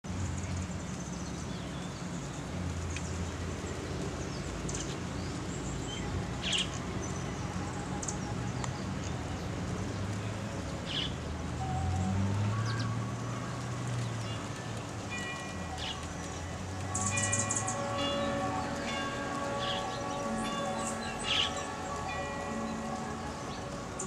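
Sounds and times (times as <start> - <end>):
background hiss: 0.2 - 24.0
birds chirping: 0.7 - 24.0.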